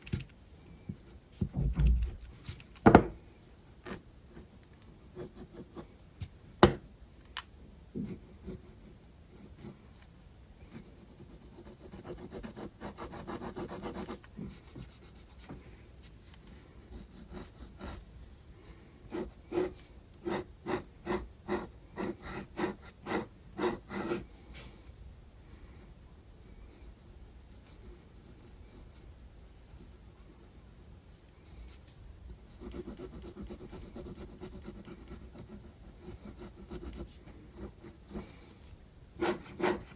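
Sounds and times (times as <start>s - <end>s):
pencil scratching on paper: 3.9s - 5.9s, 8.0s - 24.5s, 25.3s - 39.9s.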